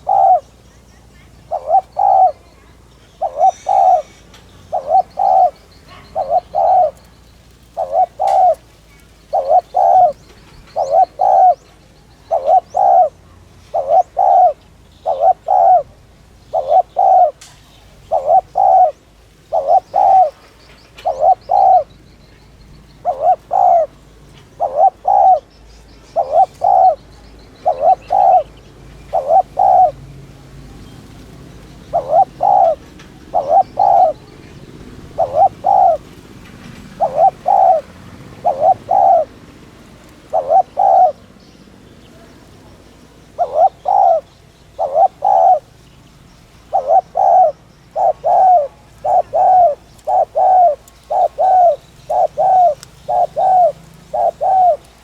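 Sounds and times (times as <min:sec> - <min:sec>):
dove cooing: 0:00.0 - 0:55.0
small birds chirping: 0:00.0 - 0:55.0.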